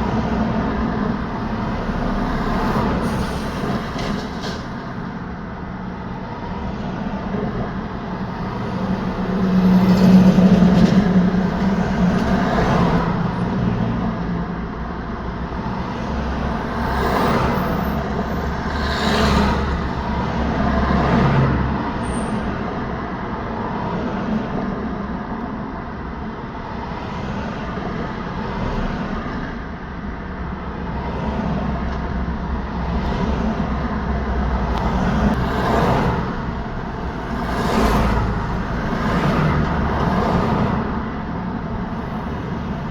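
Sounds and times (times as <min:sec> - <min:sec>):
cars and trucks passing: 0:00.0 - 0:42.9.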